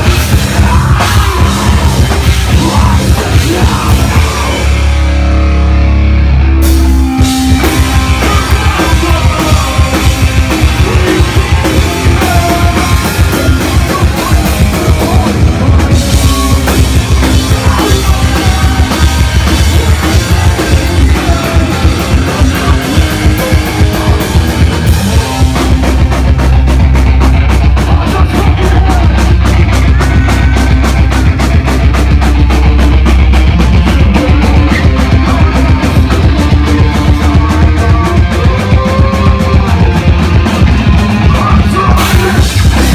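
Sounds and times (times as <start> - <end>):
fast drumming: 0.0 - 5.1, 6.6 - 42.9
heavy rock band playing: 0.0 - 42.9.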